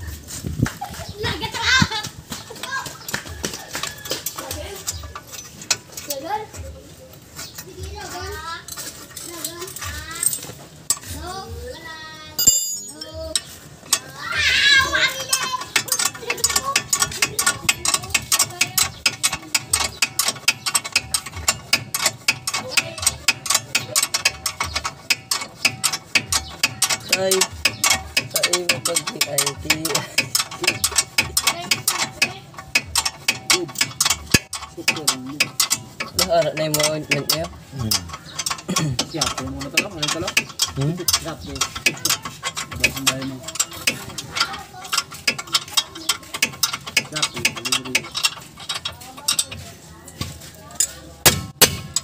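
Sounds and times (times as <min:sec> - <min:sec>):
ratchet wrench clicking: 0:02.6 - 0:06.4, 0:07.4 - 0:11.4, 0:12.4 - 0:52.0.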